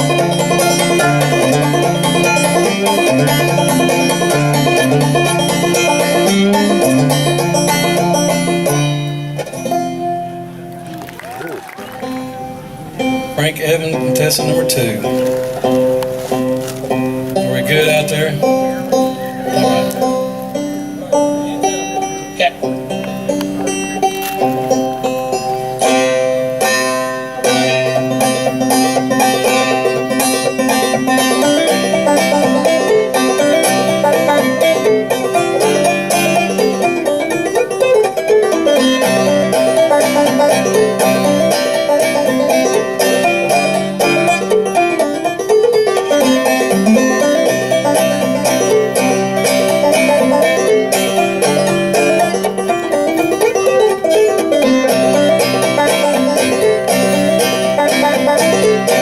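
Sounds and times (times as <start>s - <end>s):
banjo playing old-time tune: 0.0s - 59.0s.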